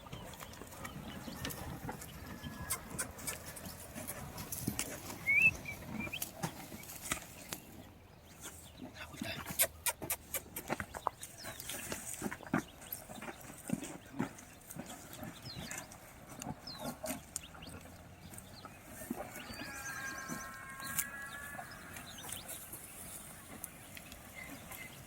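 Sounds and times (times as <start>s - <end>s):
drawn-out animal call: 0.0s - 6.9s, 11.4s - 25.0s
small birds chirping: 0.0s - 25.0s.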